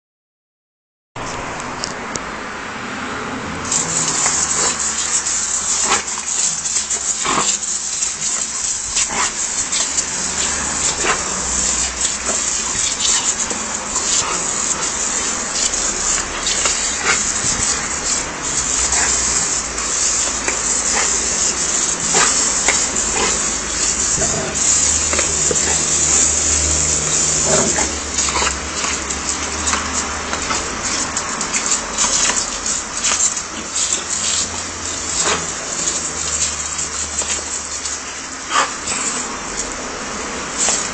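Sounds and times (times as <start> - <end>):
garden hose spraying water: 3.1 - 40.9
water splashes: 3.6 - 40.9
dogs snapping at water: 3.7 - 39.8, 40.5 - 40.9
dog vocalising: 3.7 - 39.9.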